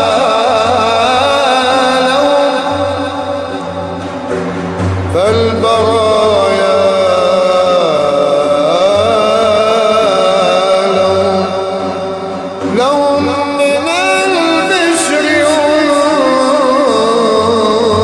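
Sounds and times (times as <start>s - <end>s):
solo voice chanting: 0.0s - 18.0s.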